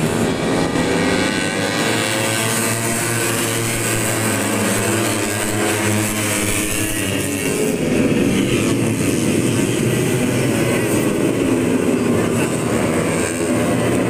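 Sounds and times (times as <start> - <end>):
motorcycles racing: 0.0 - 14.0.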